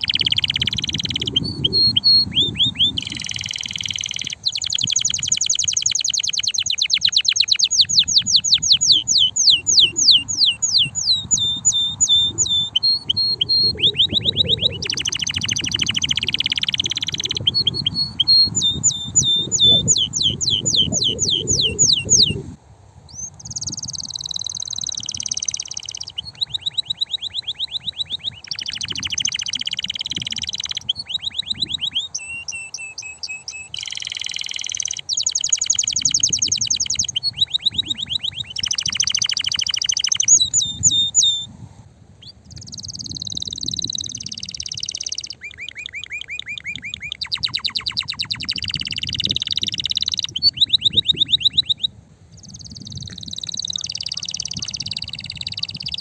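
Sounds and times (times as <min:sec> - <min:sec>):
canary singing fast trills: 0:00.0 - 0:56.0.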